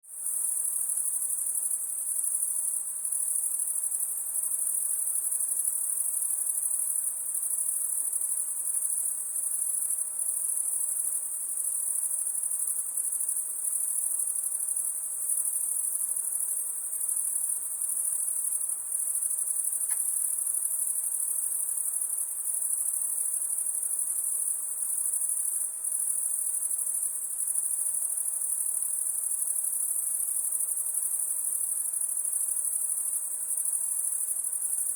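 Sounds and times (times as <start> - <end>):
insects trilling: 5.2 - 34.9.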